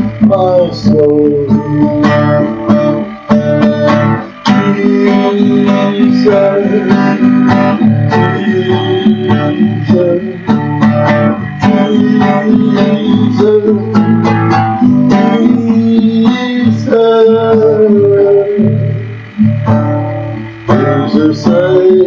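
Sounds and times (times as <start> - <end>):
person singing worship song: 0.0 - 19.4, 20.5 - 22.0
strummed acoustic guitar: 0.0 - 22.0.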